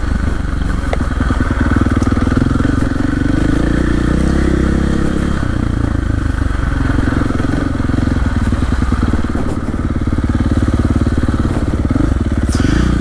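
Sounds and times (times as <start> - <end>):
dirt bike engine at low revs: 0.0 - 13.0.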